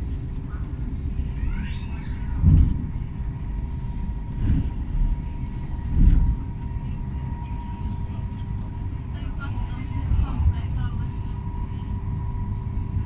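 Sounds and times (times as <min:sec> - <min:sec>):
electric train running rumble: 0:00.0 - 0:13.0
faint constant whine: 0:00.0 - 0:13.0
heavy low surges: 0:00.0 - 0:13.0.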